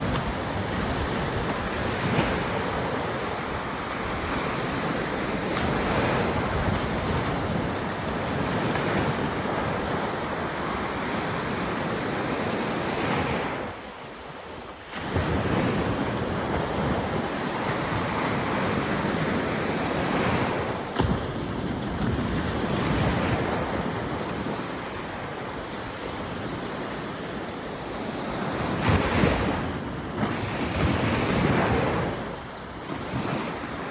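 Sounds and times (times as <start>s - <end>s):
wind buffeting microphone: 0.0s - 13.8s, 14.6s - 33.9s
surf washing onto beach: 0.0s - 33.9s.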